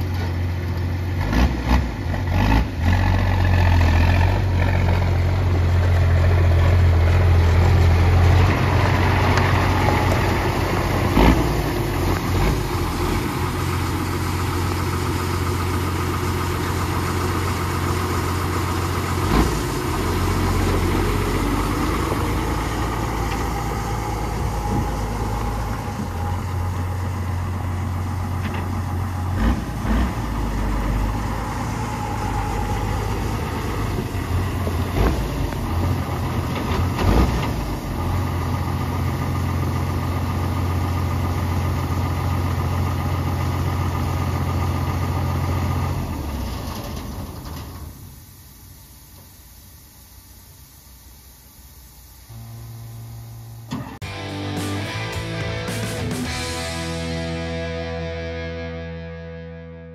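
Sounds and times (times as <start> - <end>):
truck diesel engine droning: 0.0 - 49.1, 52.0 - 59.9.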